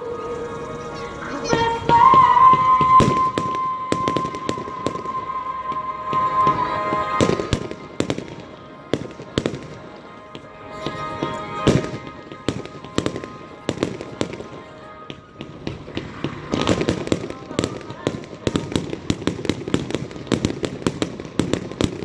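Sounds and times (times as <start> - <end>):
music: 0.0 - 22.0
fireworks bangs and crackles: 1.6 - 22.0.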